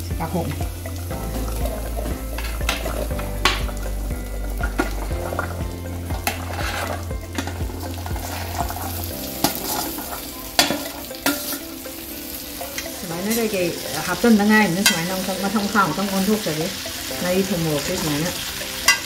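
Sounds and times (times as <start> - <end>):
food sizzling in a pot: 0.0 - 19.0
skimmer scraping and clinking: 0.0 - 19.0.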